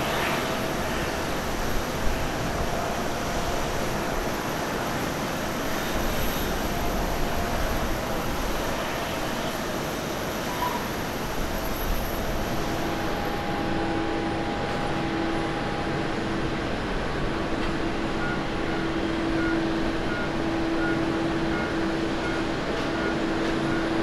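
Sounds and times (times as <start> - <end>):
airliner low hum and high tone: 0.0 - 24.0
distant jet engines roaring: 0.0 - 24.0.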